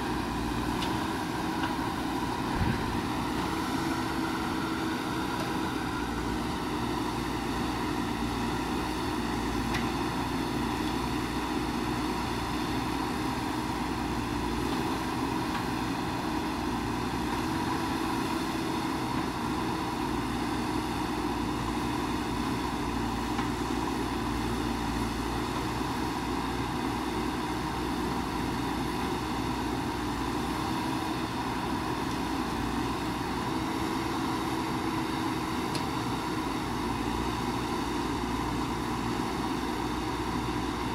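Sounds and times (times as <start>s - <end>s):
backhoe digging soil: 0.0s - 40.9s
diesel engine running: 0.0s - 40.9s.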